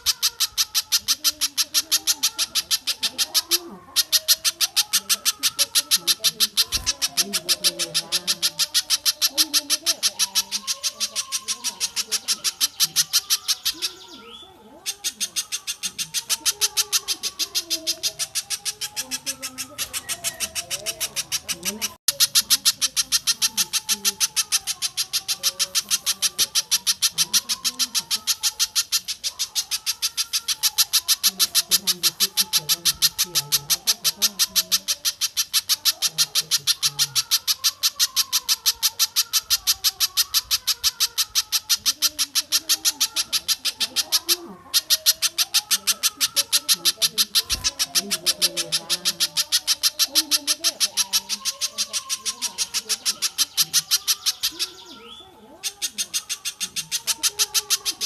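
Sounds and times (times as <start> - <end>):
faint bird warbling: 0.0 - 58.0.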